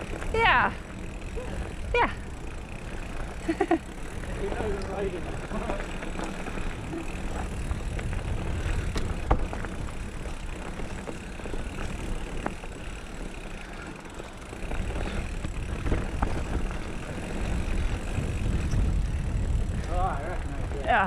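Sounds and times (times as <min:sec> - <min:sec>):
bike clicks and rattles: 0:00.0 - 0:21.0
bike tyres rumbling over dirt: 0:00.0 - 0:21.0.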